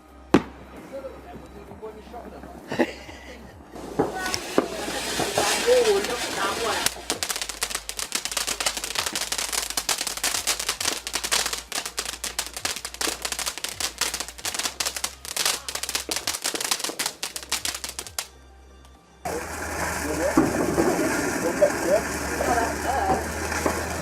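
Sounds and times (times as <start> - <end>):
firework crackling: 3.6 - 18.4, 19.2 - 24.0.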